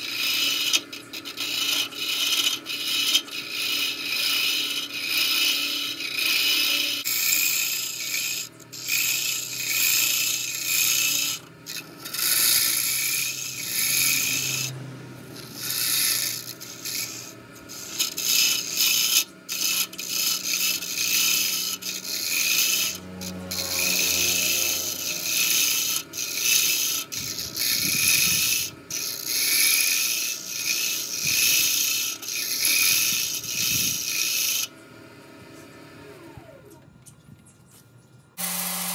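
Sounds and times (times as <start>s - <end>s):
tool scraping wood on lathe: 0.0s - 34.7s
lathe humming: 0.0s - 34.8s, 38.4s - 38.9s.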